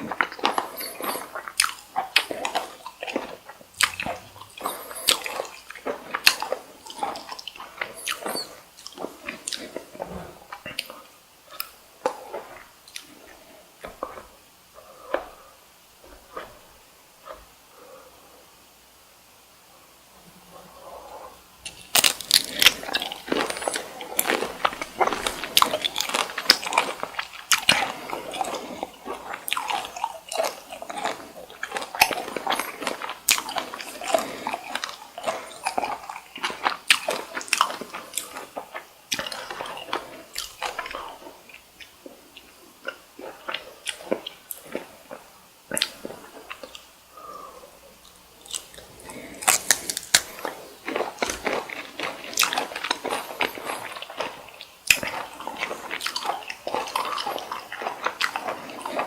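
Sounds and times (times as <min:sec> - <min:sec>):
chewing shrimp: 0:00.0 - 0:17.9, 0:20.3 - 0:59.0.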